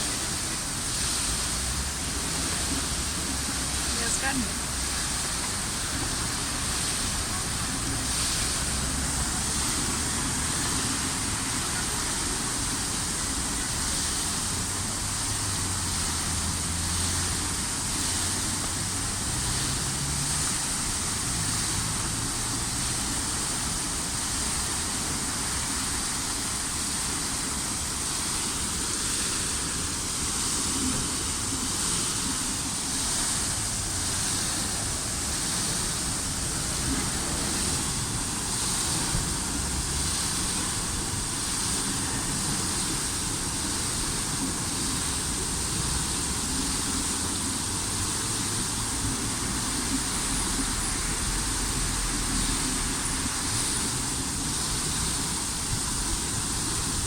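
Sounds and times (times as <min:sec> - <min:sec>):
fountain water splashing: 0:00.0 - 0:57.0
passing traffic rumble: 0:00.0 - 0:57.0.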